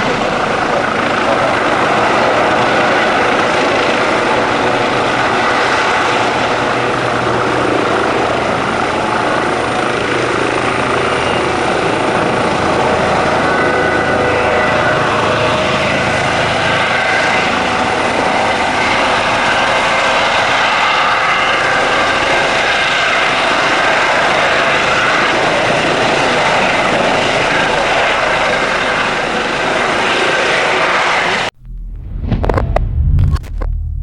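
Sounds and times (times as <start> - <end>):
helicopter rotor and engine: 0.0 - 31.5.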